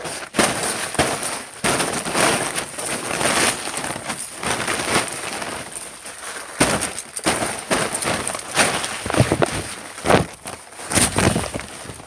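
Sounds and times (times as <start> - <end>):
ice crunching and cracking: 0.0 - 12.0.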